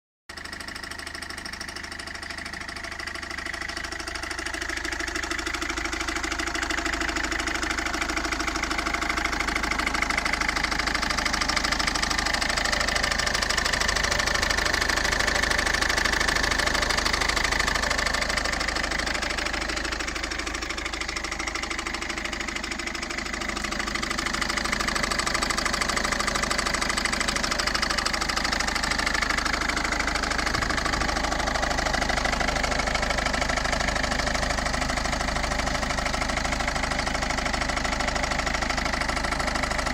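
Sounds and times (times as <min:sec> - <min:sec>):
diesel engine running: 0:00.3 - 0:39.9
fast ticking clatter: 0:00.3 - 0:39.9.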